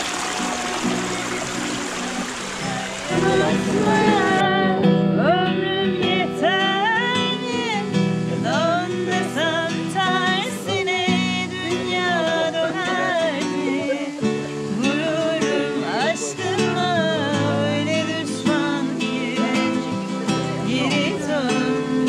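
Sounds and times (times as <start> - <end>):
guitar strumming: 0.0 - 22.0
woman singing: 2.6 - 22.0.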